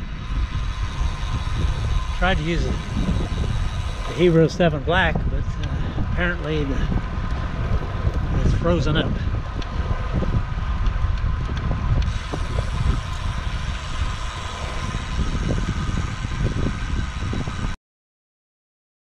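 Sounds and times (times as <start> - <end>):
tyre and road noise: 0.0 - 17.8
wind buffeting microphone: 0.0 - 17.8.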